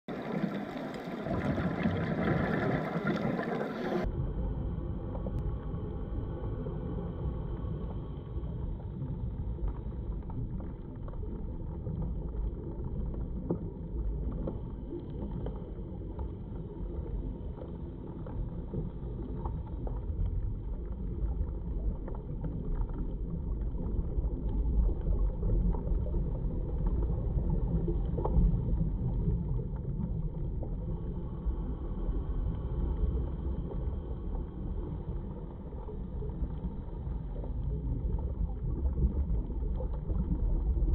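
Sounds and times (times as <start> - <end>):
underwater low rumble: 0.0 - 40.9.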